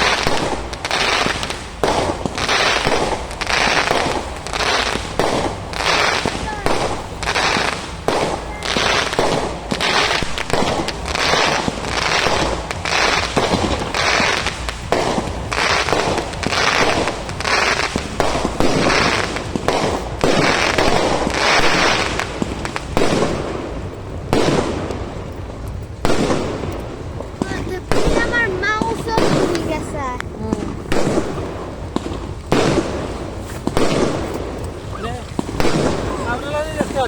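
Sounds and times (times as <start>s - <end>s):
fireworks bursting with crackle: 0.0s - 37.0s.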